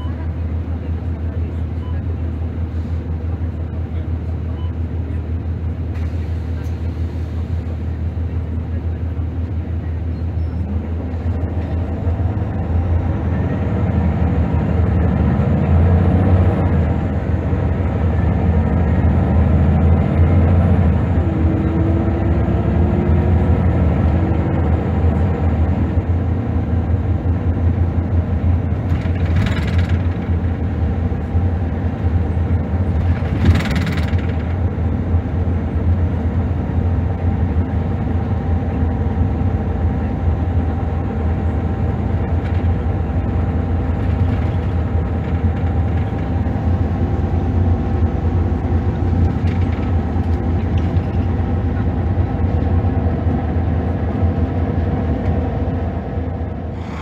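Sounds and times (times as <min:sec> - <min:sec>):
diesel bus engine droning: 0:00.0 - 0:57.0.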